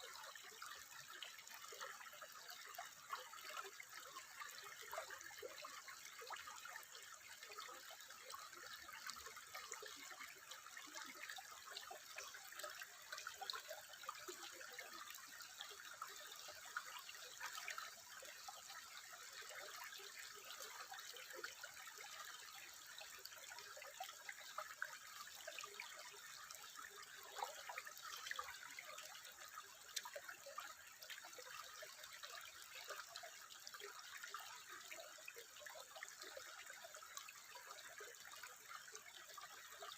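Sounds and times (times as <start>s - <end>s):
water drips and splashes: 0.0s - 39.9s
water trickling: 0.0s - 39.9s.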